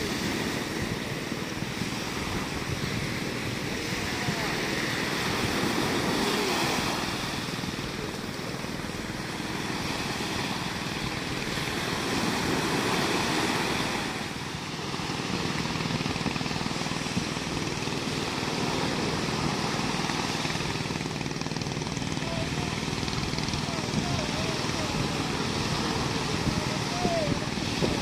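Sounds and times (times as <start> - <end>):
surf breaking on a beach: 0.0 - 28.0.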